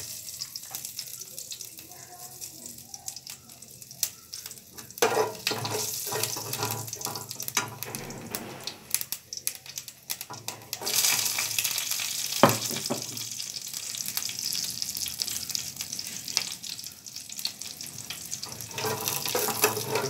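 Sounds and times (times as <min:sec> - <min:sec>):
hot oil sizzling in a wok: 0:00.0 - 0:20.0.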